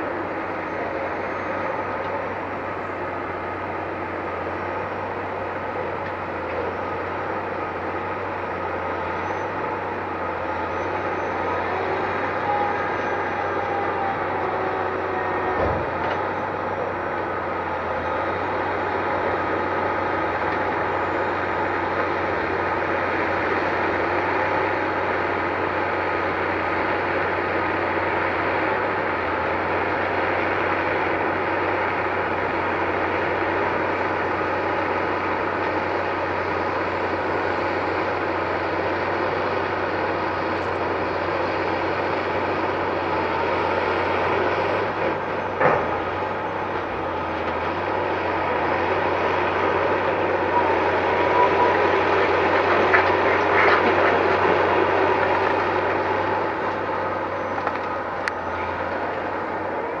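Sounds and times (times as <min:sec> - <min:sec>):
drilling rig engine running: 0:00.0 - 1:00.0.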